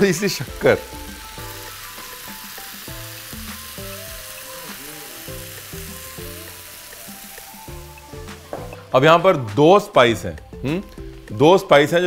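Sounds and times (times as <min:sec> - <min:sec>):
soft background music: 0:00.0 - 0:12.0
vegetables sizzling in oil: 0:00.0 - 0:12.0.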